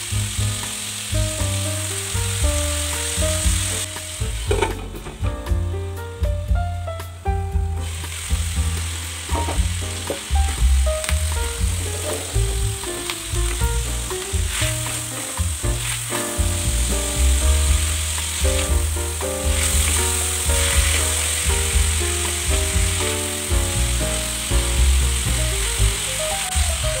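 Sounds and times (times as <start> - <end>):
food sizzling in a frying pan: 0.0 - 5.2, 7.8 - 27.0
background music: 0.0 - 27.0.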